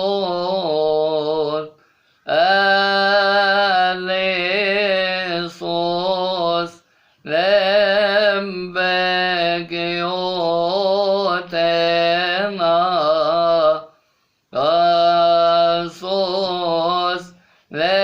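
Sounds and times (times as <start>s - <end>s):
man chanting a hymn: 0.0s - 18.0s.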